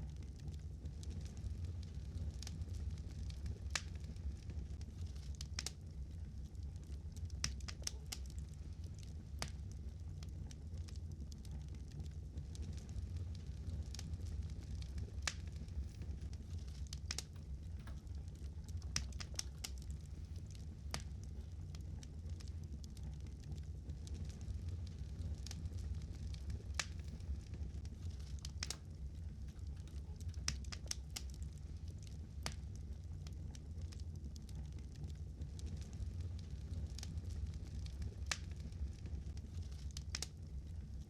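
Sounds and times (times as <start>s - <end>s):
low rumble: 0.0s - 41.0s
wood fire crackling: 0.0s - 41.0s.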